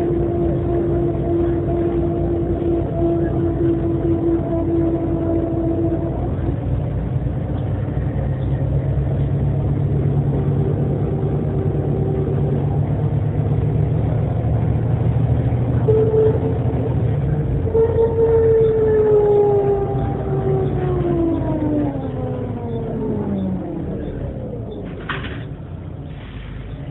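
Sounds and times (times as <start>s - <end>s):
differential whining: 0.0s - 26.0s
drivetrain drone: 0.0s - 26.9s.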